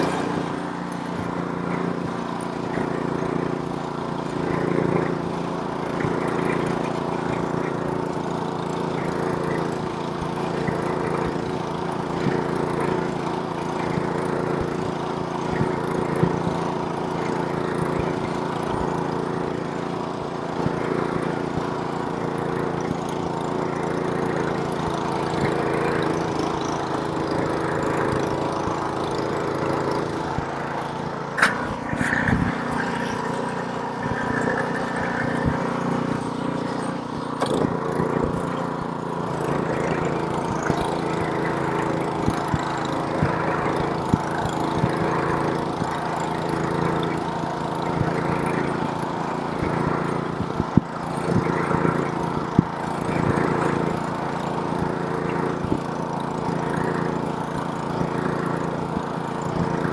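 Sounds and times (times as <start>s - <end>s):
snowblower engine running: 0.0s - 59.9s.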